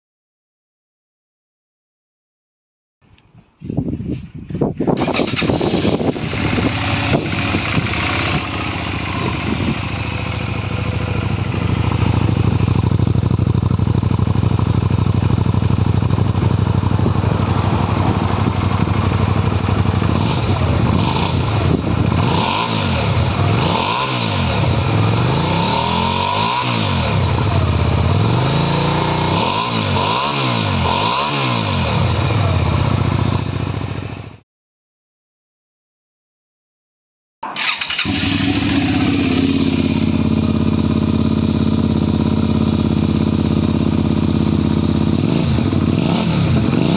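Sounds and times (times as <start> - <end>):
motorcycle engine idling and revving: 3.6 - 34.4, 37.4 - 46.9.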